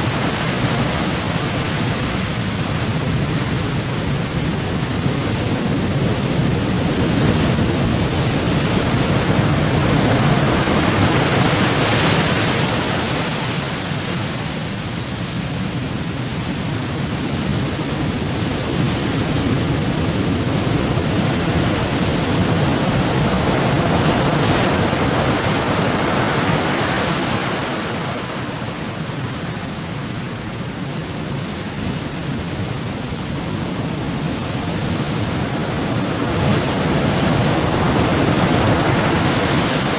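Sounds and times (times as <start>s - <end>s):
waves breaking: 0.0s - 39.9s
wind: 0.0s - 39.9s.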